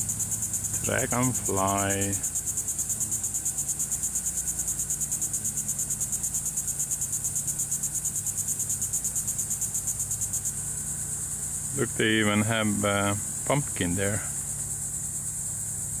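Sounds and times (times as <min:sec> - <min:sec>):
faint low hum: 0:00.0 - 0:15.1
insects trilling: 0:00.0 - 0:16.0.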